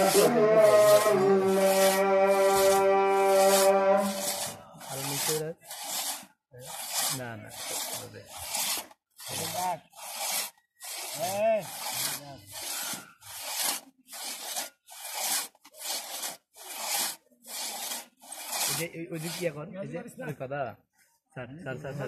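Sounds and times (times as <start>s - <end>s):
hand saw rasping through wood: 0.0s - 19.6s.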